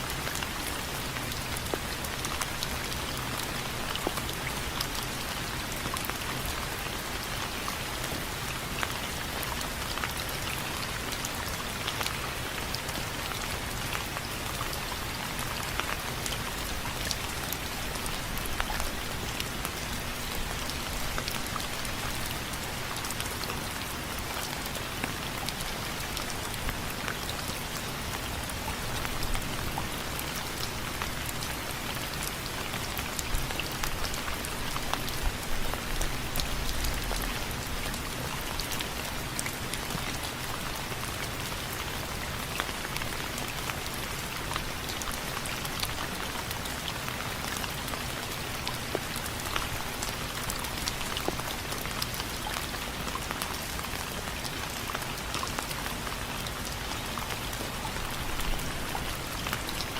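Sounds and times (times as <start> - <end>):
rain pattering on window frames: 0.1 - 59.9.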